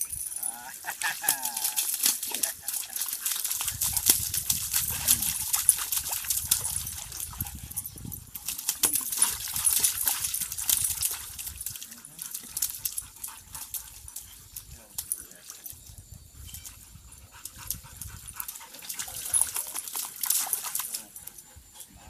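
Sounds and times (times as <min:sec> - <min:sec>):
dogs playing: 0:00.0 - 0:22.0
paws splashing in muddy water: 0:00.2 - 0:16.0, 0:16.6 - 0:22.0.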